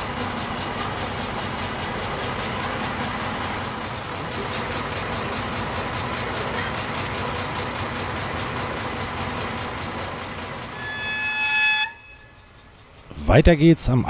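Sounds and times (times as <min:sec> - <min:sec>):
diesel locomotive engine running: 0:00.0 - 0:14.0.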